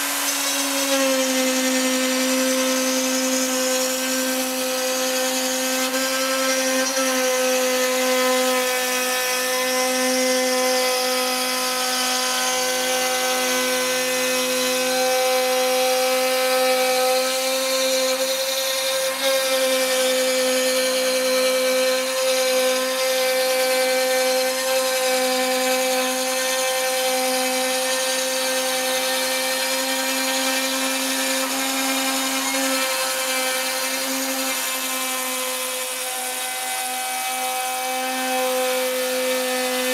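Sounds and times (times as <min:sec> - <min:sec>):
cnc router whining: 0:00.0 - 0:39.9.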